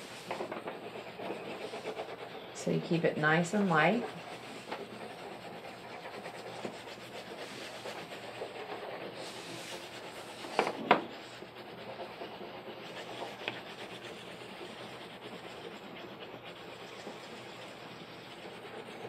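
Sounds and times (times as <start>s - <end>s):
crayon rubbing on paper: 0.0s - 19.0s.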